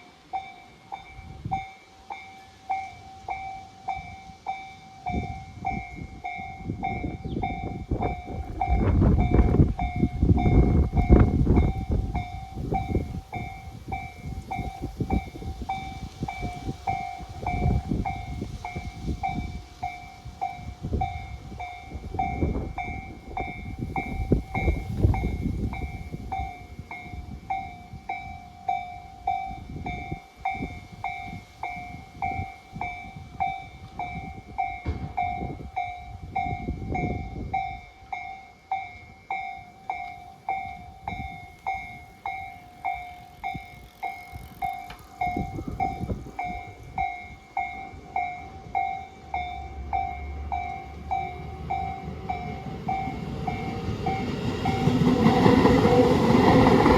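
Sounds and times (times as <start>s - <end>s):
train rumbling past: 0.0s - 56.9s
level crossing alarm bell: 0.4s - 56.9s.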